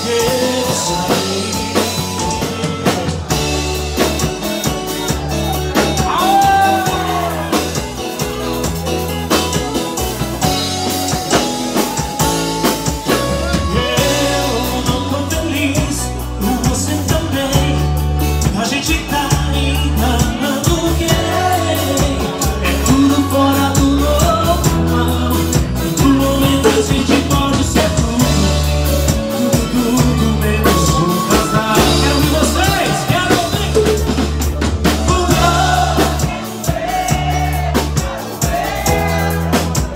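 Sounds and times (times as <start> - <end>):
bass line: 0.0 - 39.9
drum beat: 0.0 - 39.9
guitar playing: 0.0 - 39.9.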